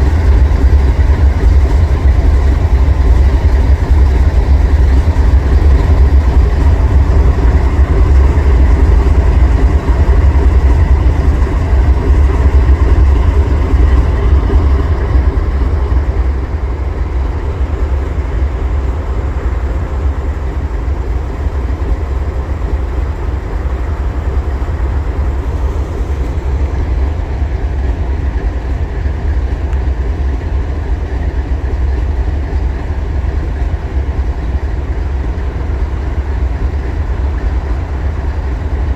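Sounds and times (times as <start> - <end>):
freight train rumbling past: 0.0 - 38.9
rail and wheel noise: 0.0 - 38.9.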